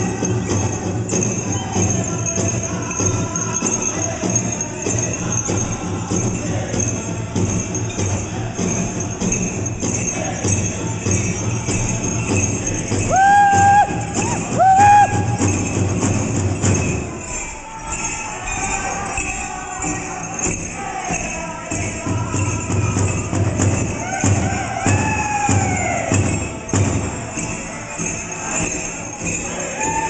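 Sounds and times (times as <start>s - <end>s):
group singing: 0.0s - 30.0s
high held sung notes: 0.0s - 30.0s
leg bells jingling: 0.0s - 30.0s
steady drumbeat: 0.0s - 30.0s.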